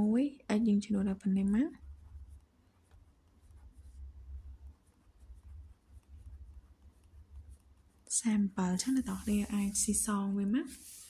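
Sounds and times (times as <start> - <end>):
low steady hum: 0.0 - 11.0
pen scratching on paper: 1.6 - 11.0.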